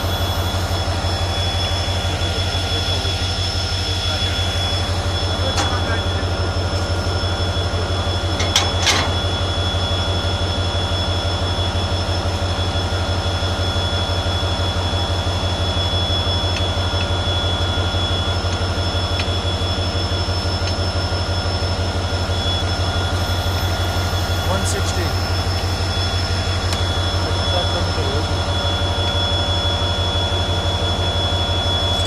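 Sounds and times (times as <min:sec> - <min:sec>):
diesel locomotive engine idling: 0:00.0 - 0:32.0
high whine: 0:00.0 - 0:32.0.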